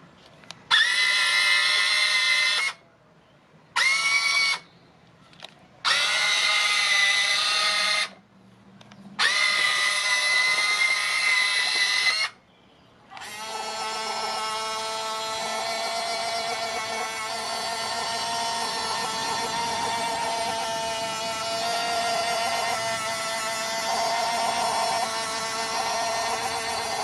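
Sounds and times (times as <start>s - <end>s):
toy excavator motors whining: 0.0s - 2.8s, 3.8s - 4.7s, 5.3s - 8.2s, 8.8s - 12.4s, 13.1s - 27.0s.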